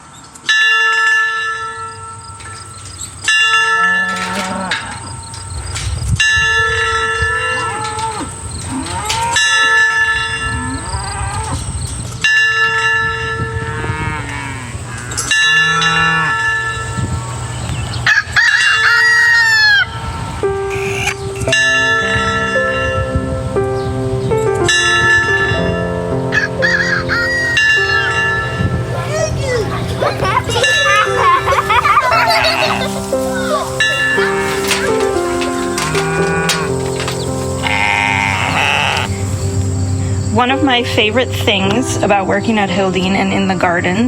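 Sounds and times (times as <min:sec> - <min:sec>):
farm animals calling: 0:02.6 - 0:22.6, 0:26.2 - 0:44.0.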